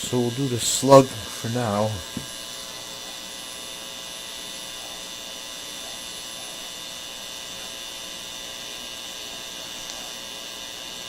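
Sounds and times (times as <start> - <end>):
radio speaker hum with steady tones: 0.0 - 11.0.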